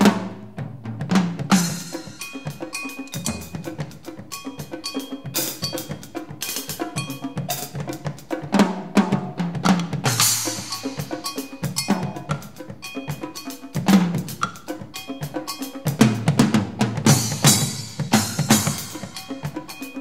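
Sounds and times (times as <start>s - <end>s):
drums and cymbals playing: 0.0s - 20.0s.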